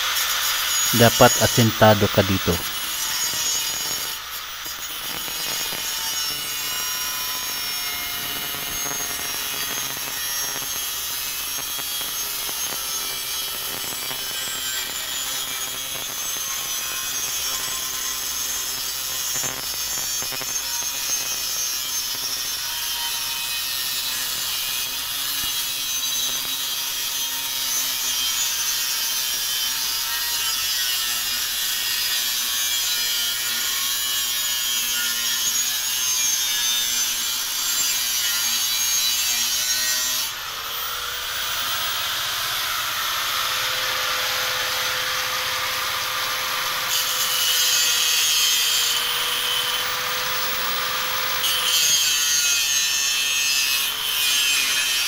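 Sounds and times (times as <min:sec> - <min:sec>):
angle grinder cutting steel: 0:00.0 - 0:55.0.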